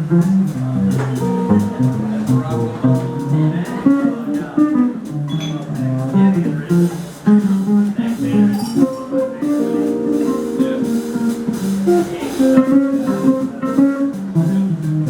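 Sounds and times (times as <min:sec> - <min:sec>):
plucked guitar: 0:00.0 - 0:15.0
small jazz group playing: 0:00.0 - 0:15.0.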